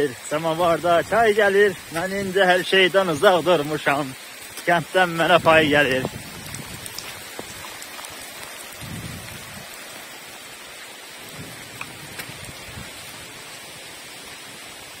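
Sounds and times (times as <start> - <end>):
heavy rain pouring on grass: 0.0 - 15.0.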